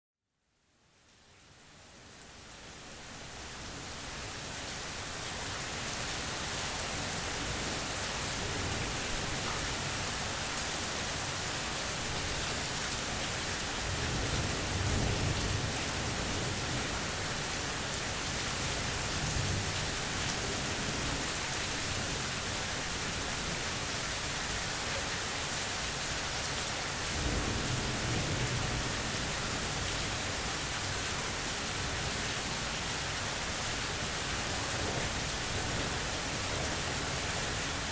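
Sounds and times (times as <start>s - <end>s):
steady rain falling: 0.6s - 37.9s.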